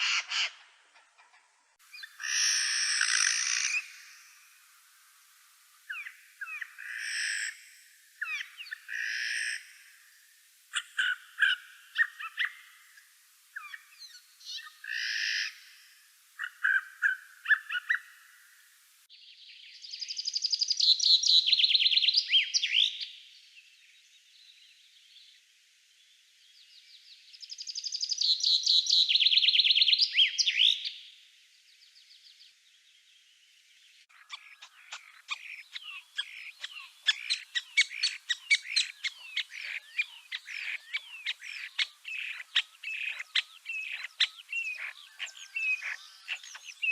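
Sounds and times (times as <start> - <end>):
birds singing: 0.0 - 5.2, 5.8 - 10.0, 10.7 - 25.4, 26.0 - 46.9.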